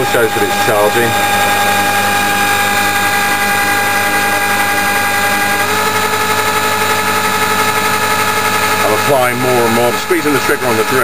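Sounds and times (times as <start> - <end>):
electric drill running: 0.0 - 11.0
motor whine: 0.0 - 11.0.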